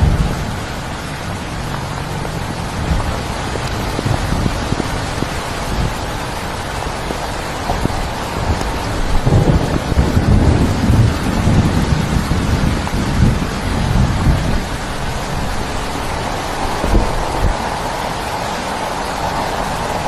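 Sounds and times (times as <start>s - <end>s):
heavy rain: 0.0s - 20.0s
rolling thunder: 0.0s - 20.0s.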